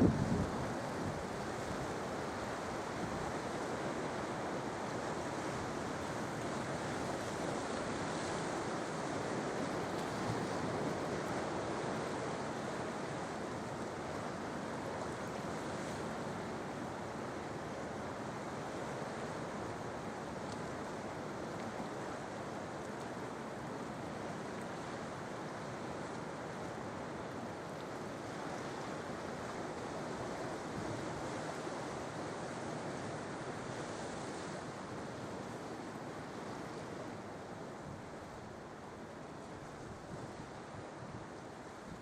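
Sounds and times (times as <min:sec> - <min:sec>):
sea waves washing onto shore: 0:00.0 - 0:42.0.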